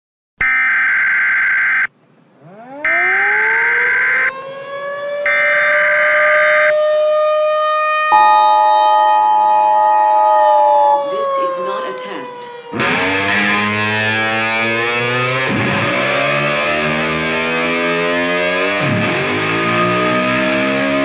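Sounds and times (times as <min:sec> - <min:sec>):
second buzzing alarm tone: 0:00.4 - 0:04.4, 0:05.2 - 0:06.8, 0:07.6 - 0:21.0
harsh buzzing alarm blasts: 0:00.4 - 0:21.0
civil defense siren wailing: 0:02.4 - 0:21.0.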